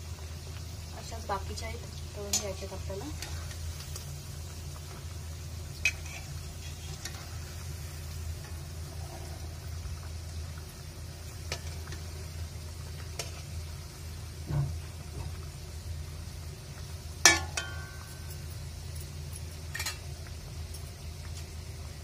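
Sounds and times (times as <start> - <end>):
dough deep-frying in oil: 0.0 - 22.0.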